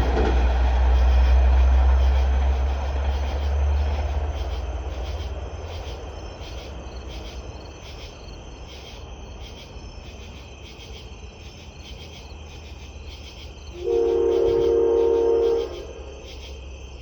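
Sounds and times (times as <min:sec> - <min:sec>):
insects chirping: 0:00.0 - 0:17.0
train rumbling: 0:00.0 - 0:17.0.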